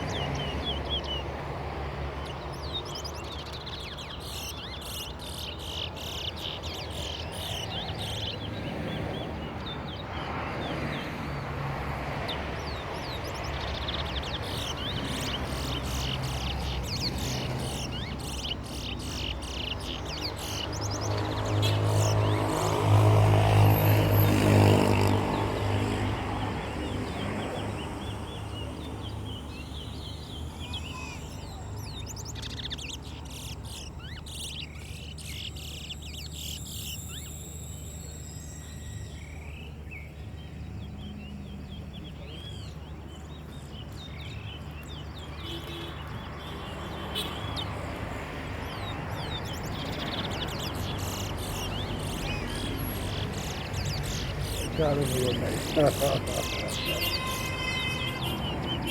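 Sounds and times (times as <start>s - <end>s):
wild birds chirping and whistling: 0.0s - 58.9s.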